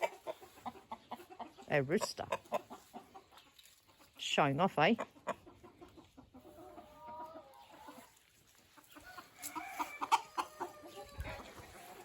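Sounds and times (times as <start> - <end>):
roosters grumbling clucks: 0.0 - 12.0.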